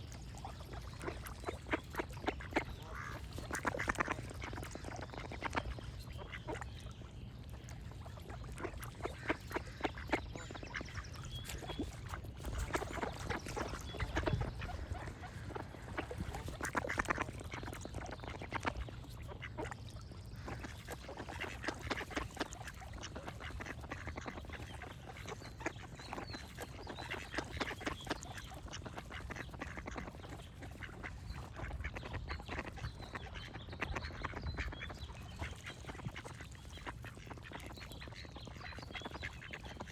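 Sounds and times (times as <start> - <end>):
faint birdsong chirping: 0.0 - 39.9
ducks quacking: 0.4 - 7.0, 8.0 - 39.9.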